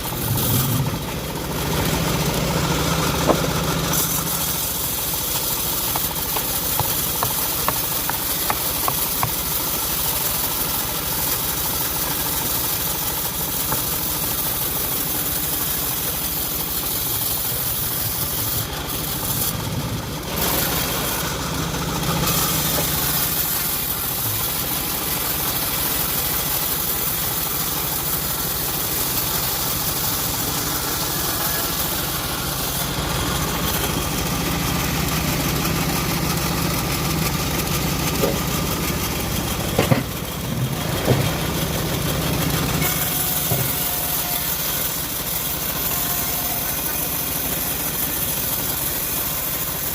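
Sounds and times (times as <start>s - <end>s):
hiss: 0.0s - 49.9s
sawmill engine running: 0.0s - 49.9s.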